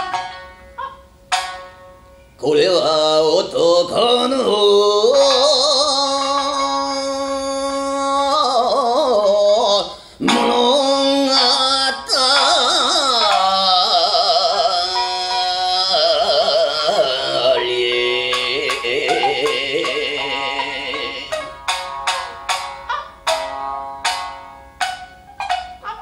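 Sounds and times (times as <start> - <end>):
man singing wavering notes: 0.0 - 25.9
shamisen plucks: 0.0 - 26.0.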